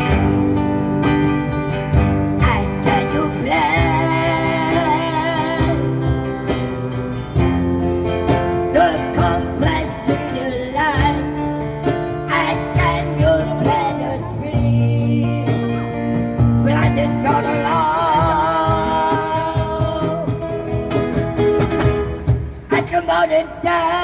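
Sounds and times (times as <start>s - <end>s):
strummed acoustic guitar: 0.0s - 24.0s
person singing a slow ballad: 2.0s - 20.8s, 22.7s - 24.0s.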